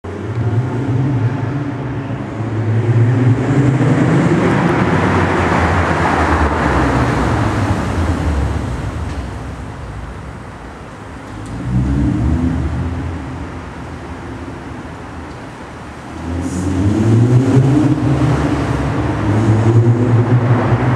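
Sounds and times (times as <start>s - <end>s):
car engine revving: 0.1s - 20.9s.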